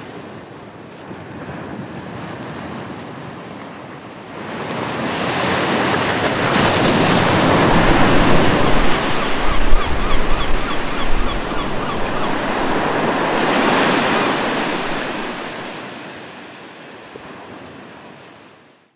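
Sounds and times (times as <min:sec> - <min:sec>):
surf washing on beach: 0:01.1 - 0:18.5.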